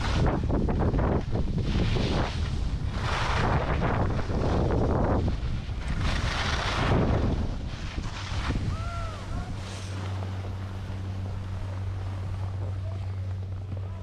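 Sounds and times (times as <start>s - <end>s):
low machinery hum: 0.0s - 14.0s
skis scraping over snow: 0.0s - 14.0s
wind buffeting microphone: 0.0s - 14.0s.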